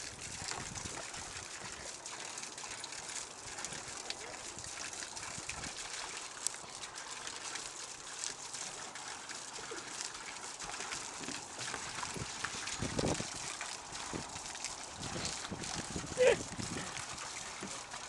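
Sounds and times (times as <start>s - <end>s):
water trickling from hose: 0.0s - 18.0s
dogs sloshing in water: 0.1s - 18.0s.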